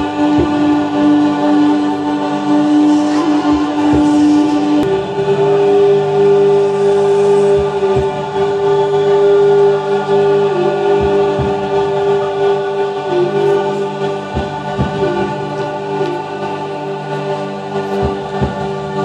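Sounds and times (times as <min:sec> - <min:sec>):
group toning a held note: 0:00.0 - 0:19.0
meditation music: 0:00.0 - 0:19.0
steady low drone: 0:00.0 - 0:19.0.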